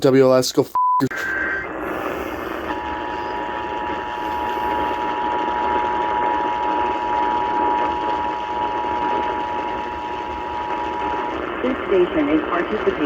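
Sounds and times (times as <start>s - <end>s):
constant hiss: 0.0s - 13.0s.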